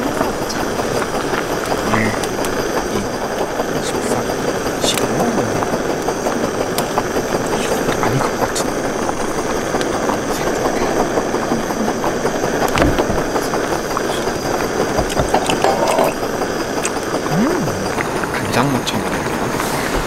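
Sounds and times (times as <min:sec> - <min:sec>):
broth boiling in a pot: 0:00.0 - 0:20.0.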